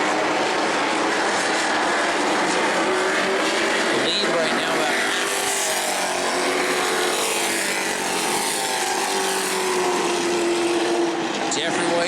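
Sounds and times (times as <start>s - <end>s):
race truck engines droning: 0.0s - 12.0s.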